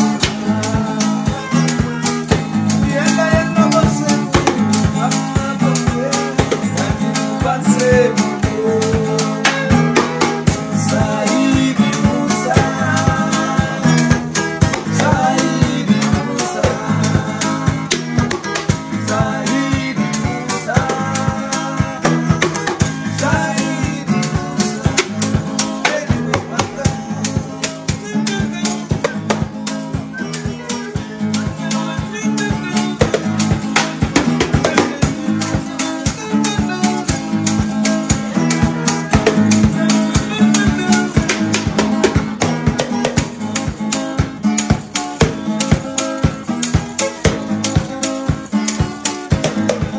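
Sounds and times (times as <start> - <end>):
acoustic guitar picking: 0.0 - 49.9
hand drums fast rhythm: 0.0 - 49.9.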